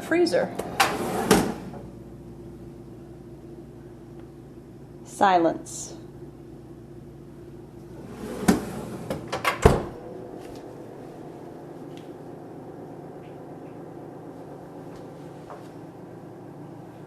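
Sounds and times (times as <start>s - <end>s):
freezer humming with whine: 0.0s - 17.0s.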